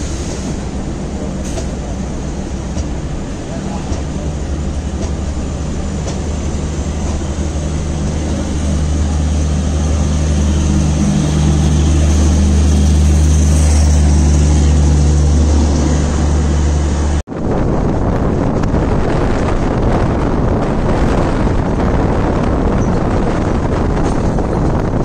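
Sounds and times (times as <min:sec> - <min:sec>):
low train running hum: 0:00.0 - 0:25.0
passing train rumble and clatter: 0:00.0 - 0:25.0
wind buffeting microphone: 0:00.0 - 0:25.0.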